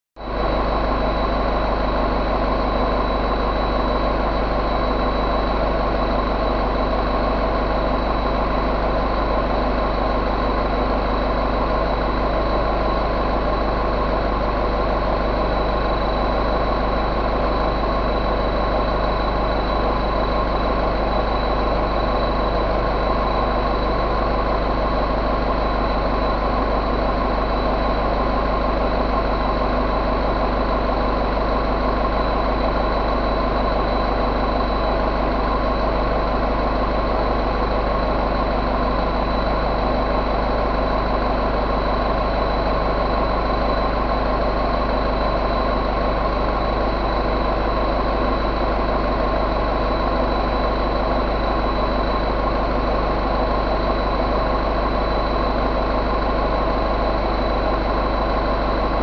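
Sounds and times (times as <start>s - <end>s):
diesel engine idling: 0.2s - 59.0s.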